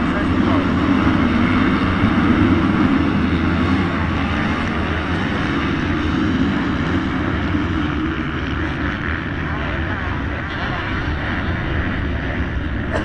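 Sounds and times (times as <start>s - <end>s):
motocross motorcycle engines: 0.0s - 13.0s.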